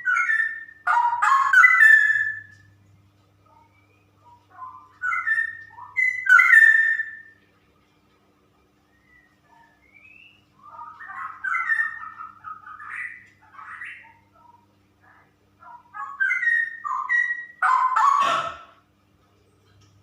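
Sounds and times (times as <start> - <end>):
bird singing: 0.0 - 2.8, 3.4 - 7.4, 8.8 - 18.8.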